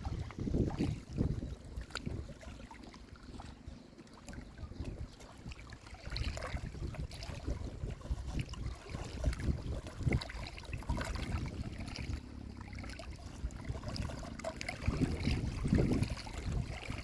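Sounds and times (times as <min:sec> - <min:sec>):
running river water: 0:00.0 - 0:17.0
wind buffeting microphone: 0:00.0 - 0:17.0.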